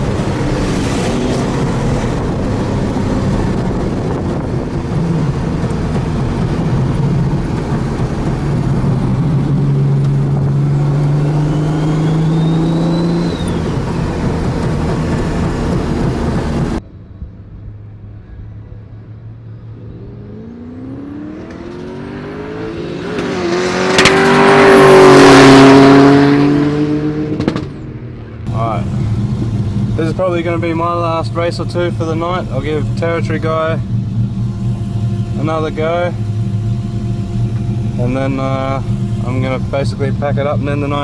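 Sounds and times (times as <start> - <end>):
car engine revving and accelerating: 0.0 - 16.8, 19.4 - 41.0
car engine running: 0.0 - 16.8, 19.2 - 41.0.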